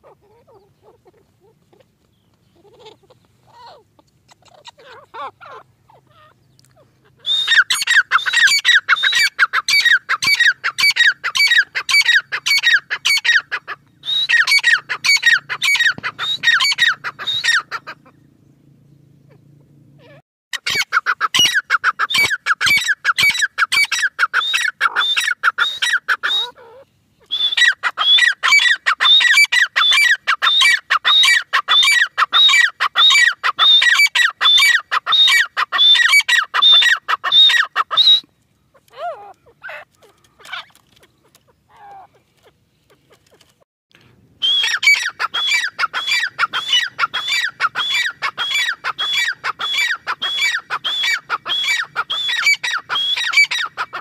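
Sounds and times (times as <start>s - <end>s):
francolin calling: 0.0s - 43.4s, 44.4s - 54.0s.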